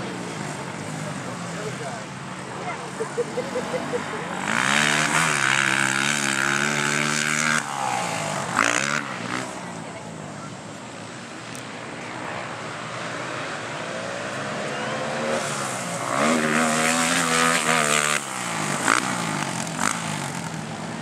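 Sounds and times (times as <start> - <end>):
quad bike engines racing: 0.0 - 21.0.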